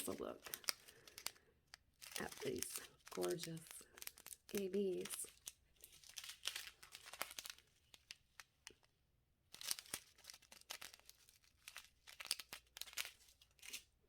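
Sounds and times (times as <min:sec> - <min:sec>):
plastic bags crinkling: 0:00.0 - 0:08.9, 0:09.5 - 0:14.0.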